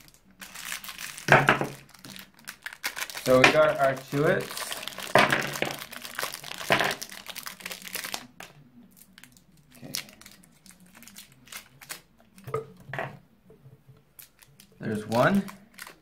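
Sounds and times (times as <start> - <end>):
sweet wrappers crinkling and tearing: 0.0 - 12.4, 14.2 - 16.0.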